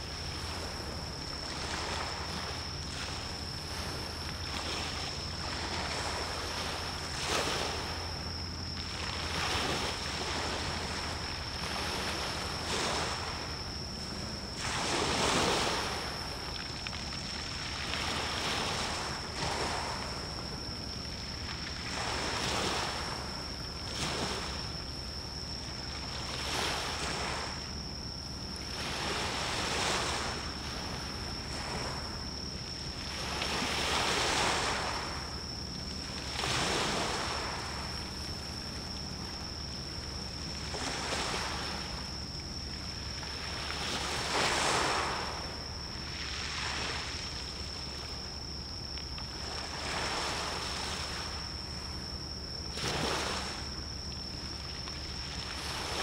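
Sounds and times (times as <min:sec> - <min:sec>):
low steady hum: 0:00.0 - 0:56.0
small waves splashing: 0:00.1 - 0:24.6, 0:28.6 - 0:52.0, 0:52.6 - 0:56.0.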